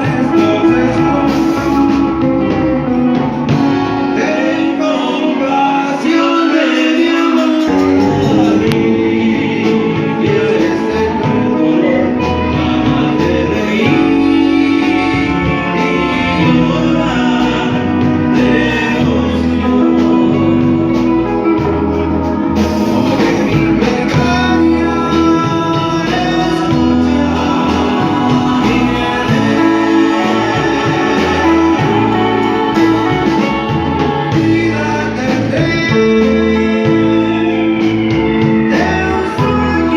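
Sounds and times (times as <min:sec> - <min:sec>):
person singing over guitar: 0:00.0 - 0:39.9
bass line and beat: 0:07.6 - 0:39.9.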